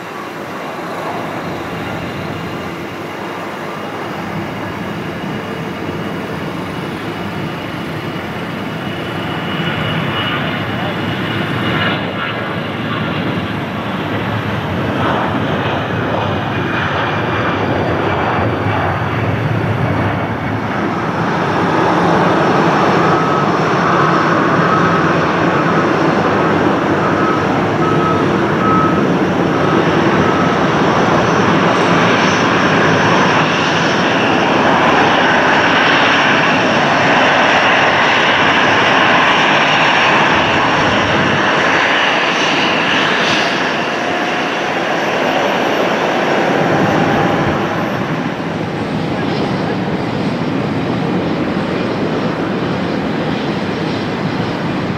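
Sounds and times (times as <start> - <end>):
jet engines running at taxi power: 0.0 - 54.9.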